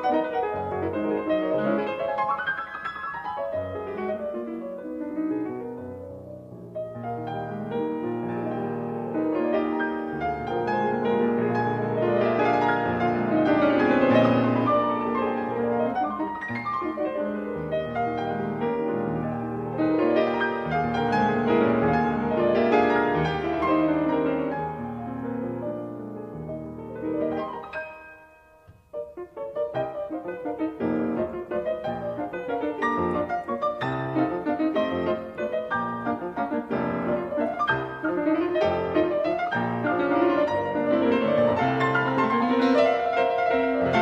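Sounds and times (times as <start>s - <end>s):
solo piano waltz: 0.0s - 44.0s.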